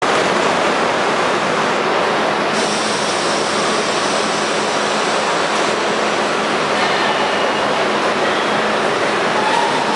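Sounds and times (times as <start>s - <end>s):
subway train pulling out: 0.0s - 9.9s.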